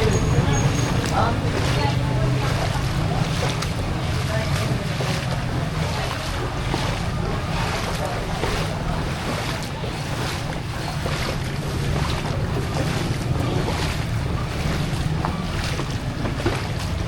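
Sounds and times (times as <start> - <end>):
floodwater sloshing and splashing: 0.0 - 17.0.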